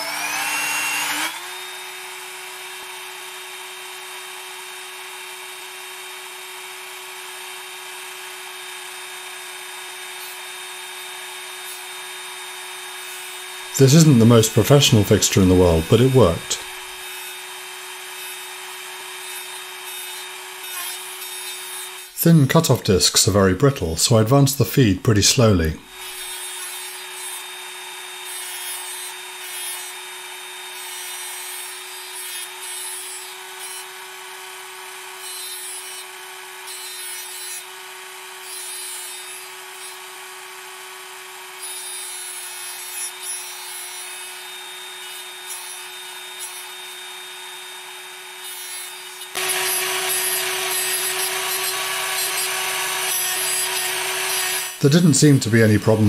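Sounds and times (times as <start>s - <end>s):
rotary tool motor whine: 0.0s - 14.8s, 15.4s - 22.2s, 25.9s - 54.8s.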